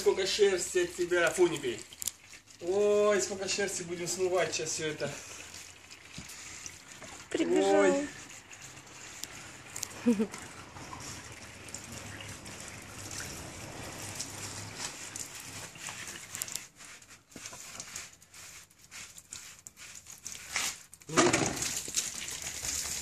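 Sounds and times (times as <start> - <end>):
hose water splashing: 0.0 - 23.0.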